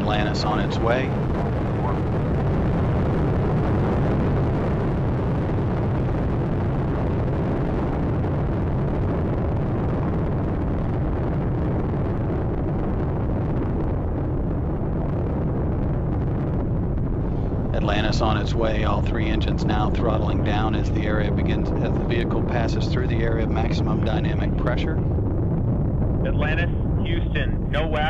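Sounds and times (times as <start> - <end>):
rocket engines roaring: 0.0 - 28.0.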